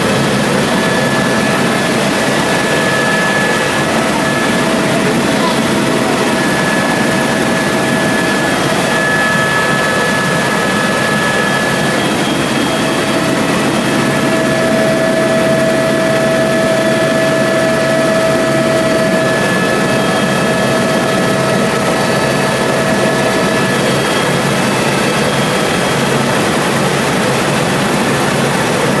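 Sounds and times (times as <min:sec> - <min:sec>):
whining tones: 0:00.0 - 0:25.5
helicopter engine and rotor noise: 0:00.0 - 0:29.0.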